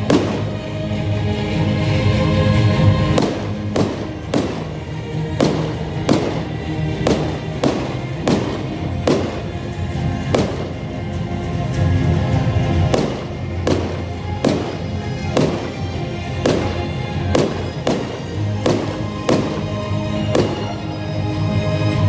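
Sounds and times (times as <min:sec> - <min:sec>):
fireworks bangs: 0:00.0 - 0:22.0
music playing: 0:00.0 - 0:22.0.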